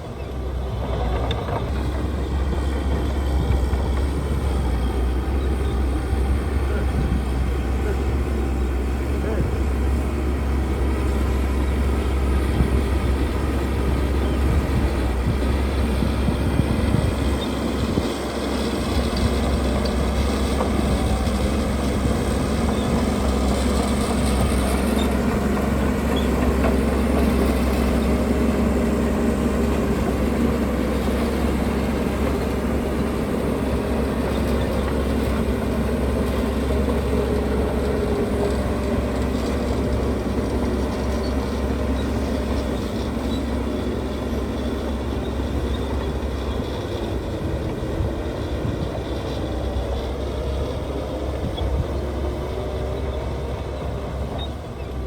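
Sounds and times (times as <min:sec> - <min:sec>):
diesel machinery engine droning: 0:00.0 - 0:55.0.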